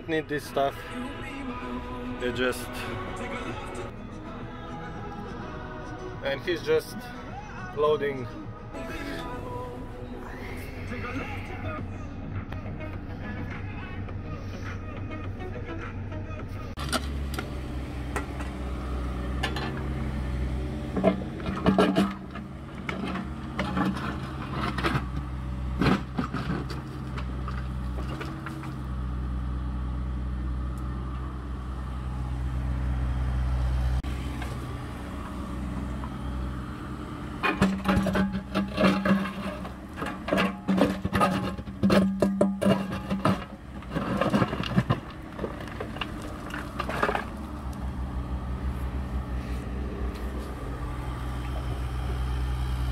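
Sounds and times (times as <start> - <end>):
excavator engine hum: 0.0 - 52.9.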